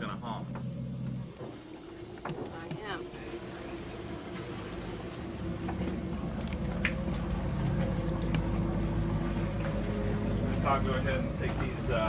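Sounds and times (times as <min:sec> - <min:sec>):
boat engines idling: 0:00.0 - 0:12.0.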